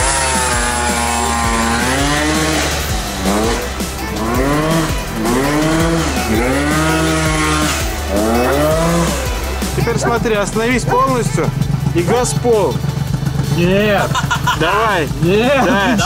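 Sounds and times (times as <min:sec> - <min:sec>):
scooter engine revving: 0:00.0 - 0:16.0.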